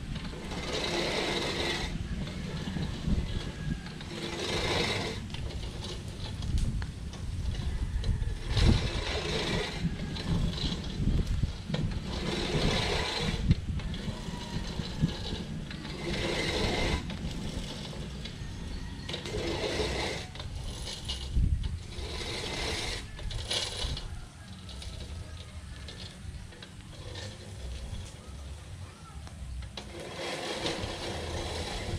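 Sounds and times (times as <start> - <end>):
reel mower cutting grass: 0.0 - 31.9.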